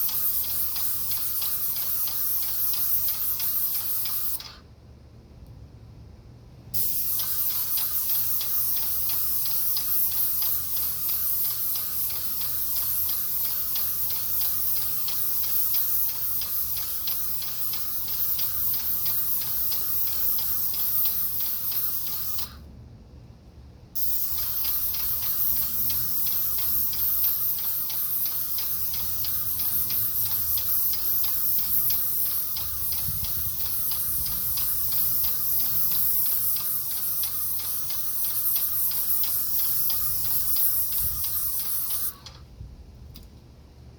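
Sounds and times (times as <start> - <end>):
paint sprayer hissing: 0.0 - 4.7, 6.7 - 22.6, 24.0 - 42.5.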